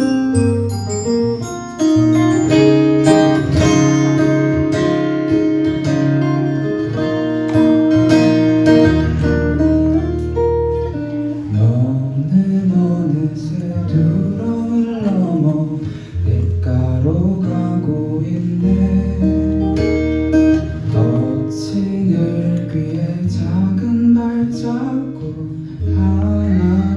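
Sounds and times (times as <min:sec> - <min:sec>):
instrumental guitar music: 0:00.0 - 0:26.9.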